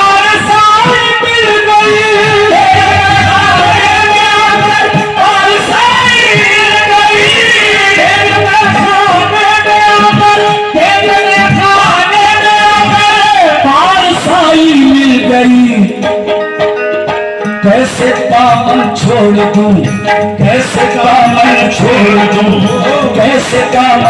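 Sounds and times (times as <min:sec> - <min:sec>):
person singing: 0:00.0 - 0:16.6, 0:17.5 - 0:24.0
harmonium playing held notes: 0:00.0 - 0:24.0.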